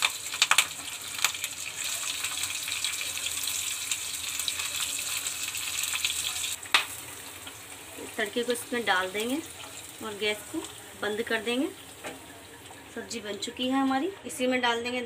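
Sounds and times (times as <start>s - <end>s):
spices sizzling in hot oil: 0.0s - 14.1s.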